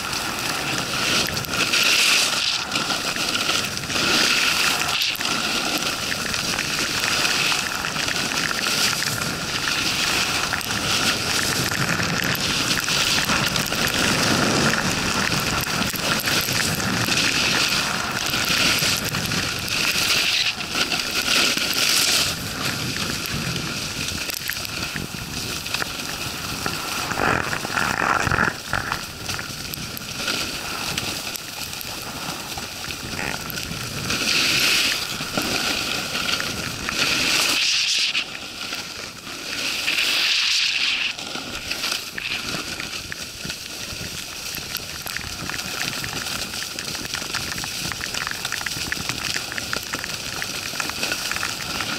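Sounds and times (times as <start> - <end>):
snowboard scraping over snow: 0.0 - 51.9
wind noise on microphone: 0.0 - 51.9.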